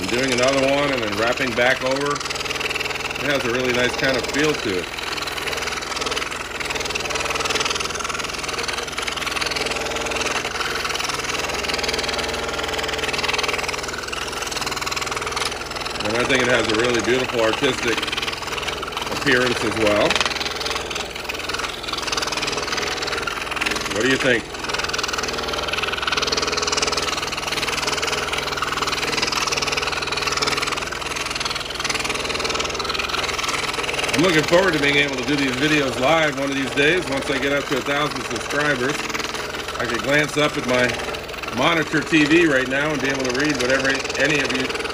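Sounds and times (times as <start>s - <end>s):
scroll saw cutting wood: 0.0s - 44.9s.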